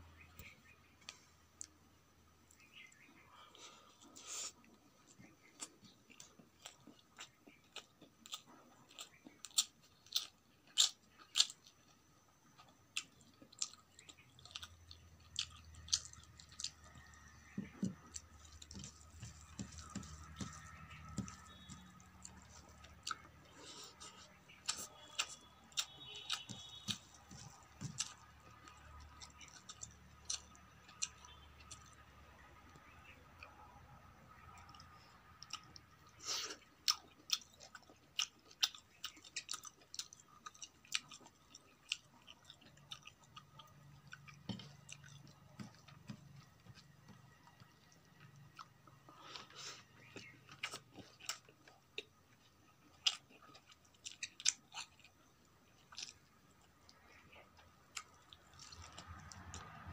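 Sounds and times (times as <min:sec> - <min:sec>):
person chewing food: 0:02.5 - 0:33.6, 0:34.3 - 0:59.9.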